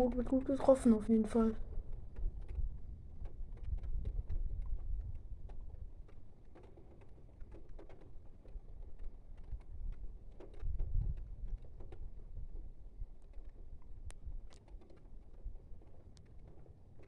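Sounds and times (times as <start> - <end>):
wind gusts rumbling on microphone: 0.0 - 6.4, 8.5 - 16.6
raindrops ticking on hard surface: 0.0 - 17.0.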